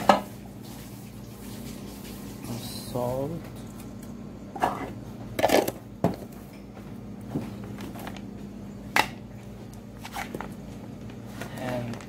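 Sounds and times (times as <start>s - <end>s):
low room tone hum: 0.0s - 12.0s.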